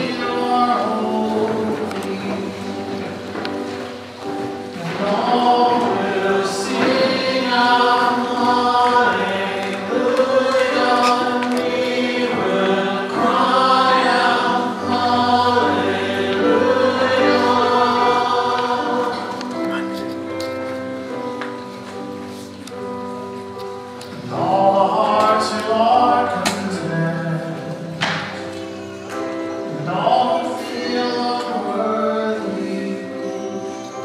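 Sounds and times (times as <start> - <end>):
congregation singing a hymn: 0.0 - 34.0.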